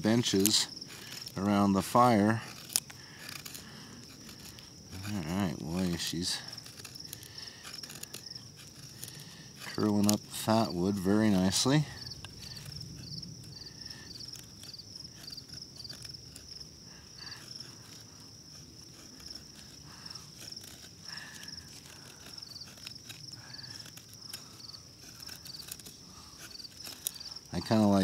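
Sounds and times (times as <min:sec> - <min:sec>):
insects trilling: 0:00.0 - 0:28.0
knife scraping wood: 0:00.0 - 0:28.0.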